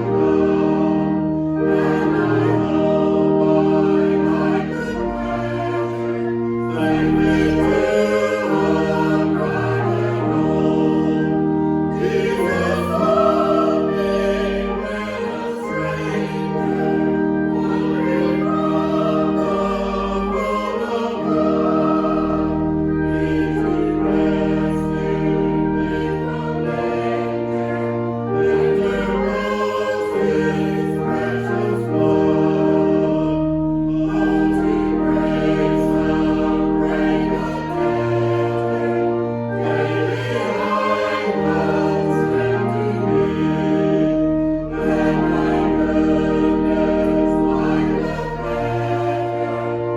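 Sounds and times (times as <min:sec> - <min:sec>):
choir singing a hymn: 0:00.0 - 0:49.9
organ chords: 0:00.0 - 0:49.9.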